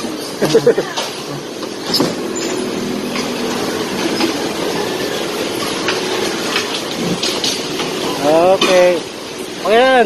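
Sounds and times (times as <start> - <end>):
bumper cars rolling rumble: 0.0 - 10.0.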